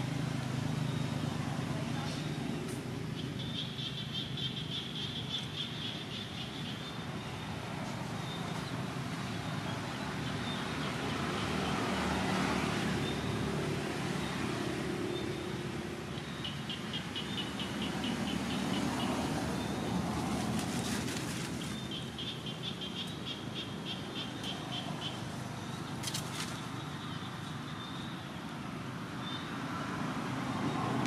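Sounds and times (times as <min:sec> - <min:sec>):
outdoor background noise: 0:00.0 - 0:31.0.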